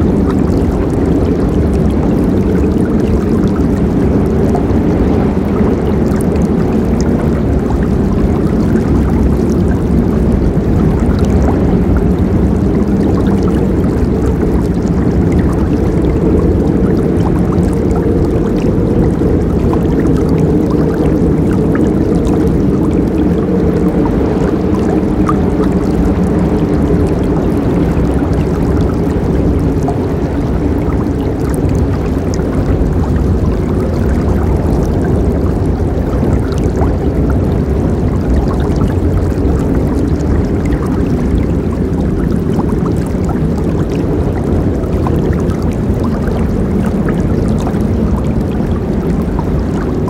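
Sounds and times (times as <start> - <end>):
river flowing: 0.0 - 50.0.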